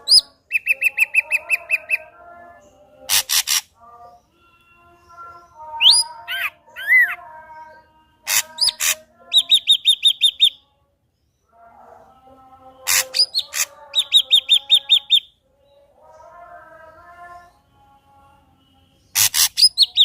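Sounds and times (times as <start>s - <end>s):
bird singing ringing notes: 0.0s - 10.8s, 12.2s - 20.0s.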